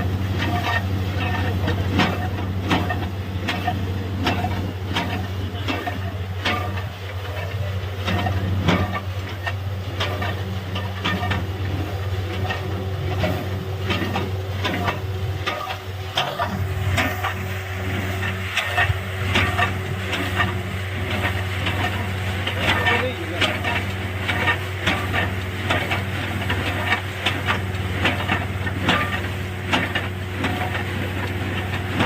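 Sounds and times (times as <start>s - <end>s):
drilling rig engine drone: 0.0s - 32.0s.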